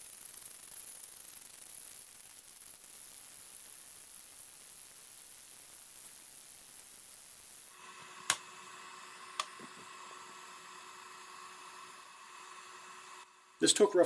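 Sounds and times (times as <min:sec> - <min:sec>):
faint hiss: 0:00.0 - 0:14.0
quiet steady hum: 0:02.4 - 0:14.0.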